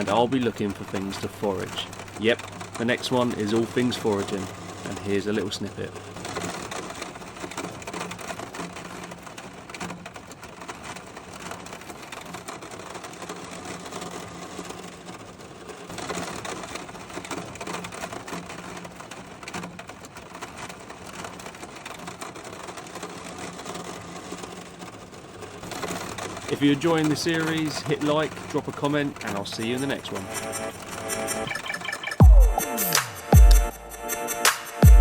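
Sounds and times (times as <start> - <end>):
rain pattering on a van roof: 0.0 - 31.5.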